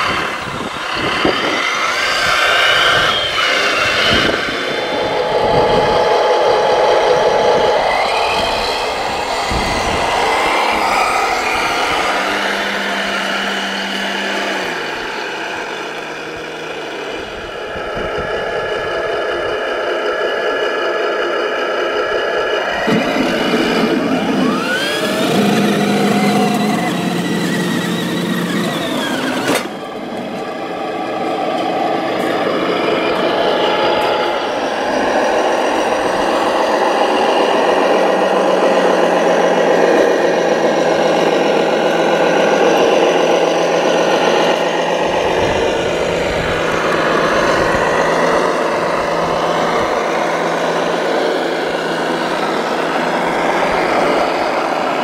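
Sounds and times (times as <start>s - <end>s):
electric model truck whine: 0.0s - 55.0s.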